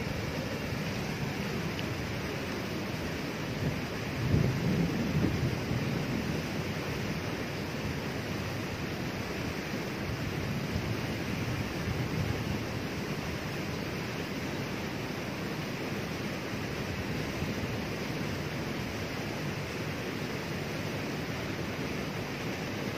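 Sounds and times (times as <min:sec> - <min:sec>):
waterfall rushing: 0:00.0 - 0:04.4, 0:05.1 - 0:22.9.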